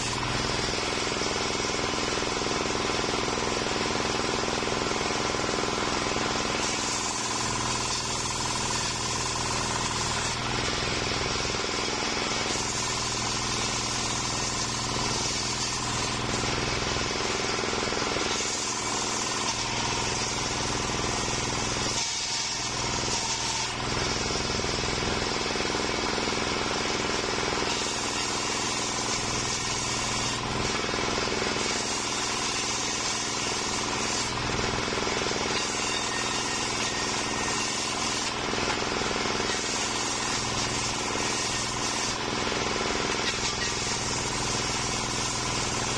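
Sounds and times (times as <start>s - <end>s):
circular saw blade running: 0.0s - 45.9s
saw cutting hiss through wood: 0.0s - 45.9s.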